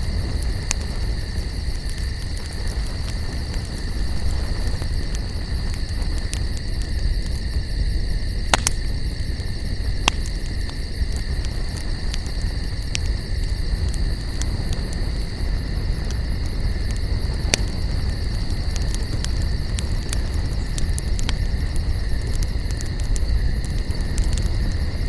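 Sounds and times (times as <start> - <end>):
campfire crackling: 0.0 - 25.0
sharp pops of fire: 0.0 - 25.0.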